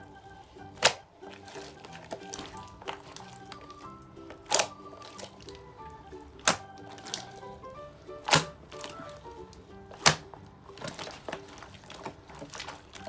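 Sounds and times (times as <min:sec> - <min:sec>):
soft background music: 0:00.0 - 0:13.0
slime squishing and popping: 0:00.6 - 0:13.0.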